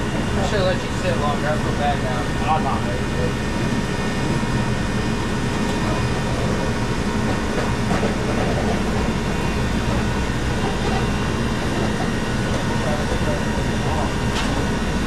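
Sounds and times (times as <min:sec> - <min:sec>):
constant hum: 0:00.0 - 0:15.0
mechanical rumble: 0:00.0 - 0:15.0.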